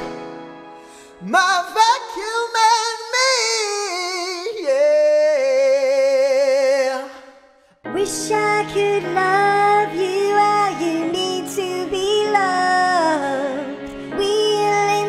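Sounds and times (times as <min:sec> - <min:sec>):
high solo voice singing with vibrato: 0:01.2 - 0:15.0.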